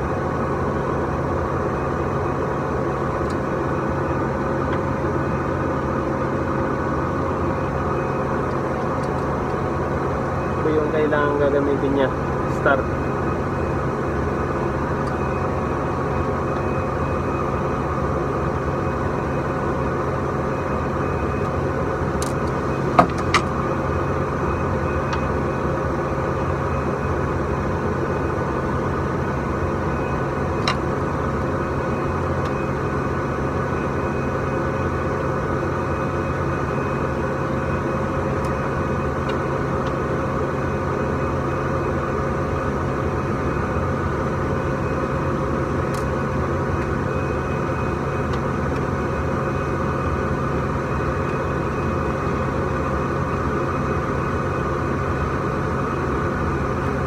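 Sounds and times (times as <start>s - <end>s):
factory machinery hum: 0.0s - 57.0s.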